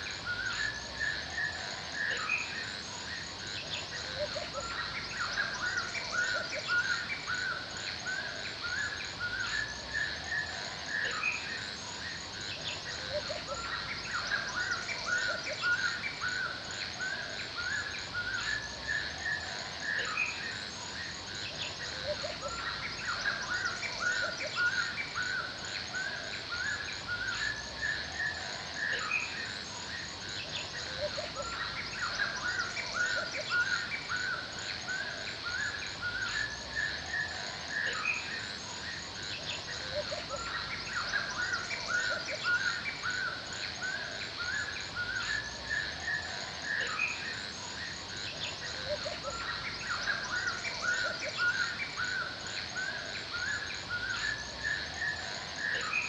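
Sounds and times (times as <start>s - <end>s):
birds chirping and singing: 0.0s - 56.0s
steady high-pitched hiss: 0.0s - 56.0s.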